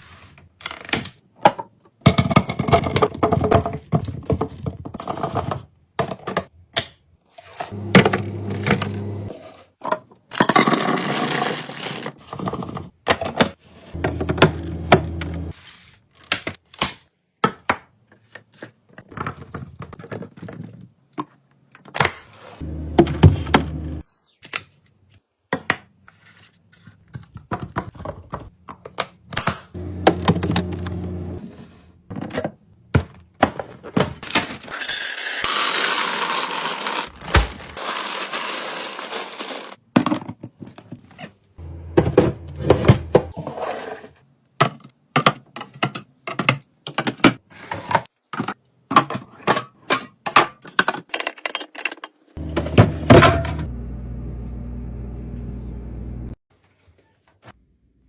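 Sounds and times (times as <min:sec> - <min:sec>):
plastic containers and jars handled: 0:00.0 - 0:23.6, 0:24.4 - 0:34.8, 0:35.5 - 0:53.7.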